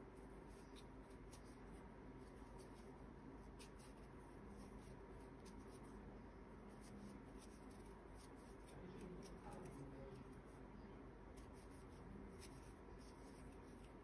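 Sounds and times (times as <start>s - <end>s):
low room hum: 0.0s - 14.0s
crochet hook rustling through cord: 0.3s - 10.6s, 11.3s - 14.0s.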